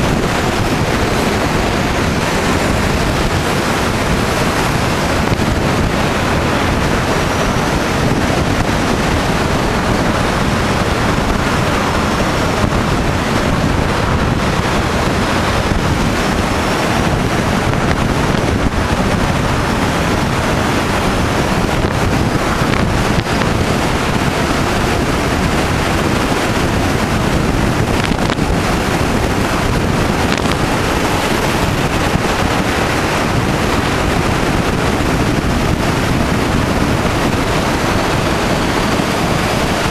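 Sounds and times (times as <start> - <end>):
car road and engine noise: 0.0 - 39.9
wind noise on microphone: 0.0 - 39.9.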